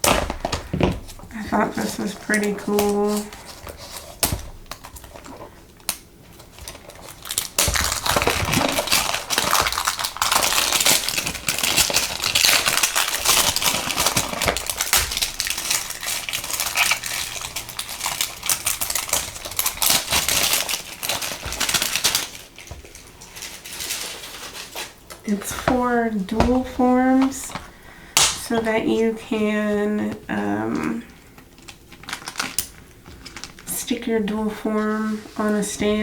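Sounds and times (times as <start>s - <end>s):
plastic packaging crinkling: 0.0s - 36.0s.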